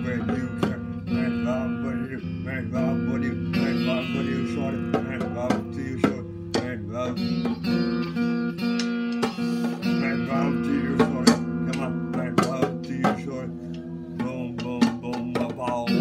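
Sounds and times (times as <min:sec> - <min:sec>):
sharp strikes: 0:00.0 - 0:13.5
guitar chords: 0:00.0 - 0:16.0.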